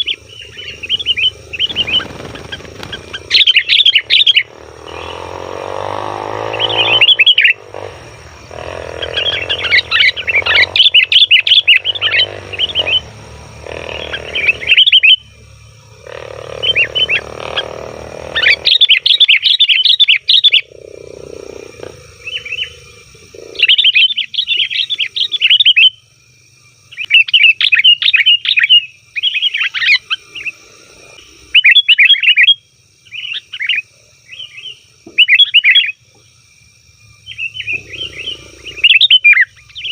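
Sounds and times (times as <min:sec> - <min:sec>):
birds chattering: 0:00.0 - 0:26.0, 0:26.8 - 0:36.3, 0:37.0 - 0:39.9.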